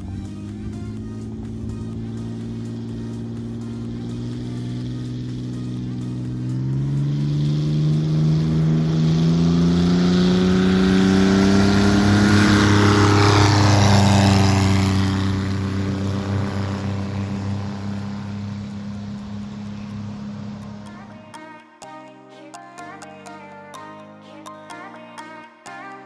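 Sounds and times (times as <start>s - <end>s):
propeller aircraft flying past: 0.0s - 21.3s.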